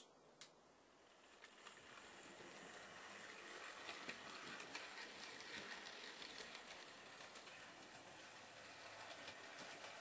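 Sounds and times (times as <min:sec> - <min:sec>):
model train motor whir: 0:00.9 - 0:10.0
wheel and rail clicks: 0:01.2 - 0:10.0.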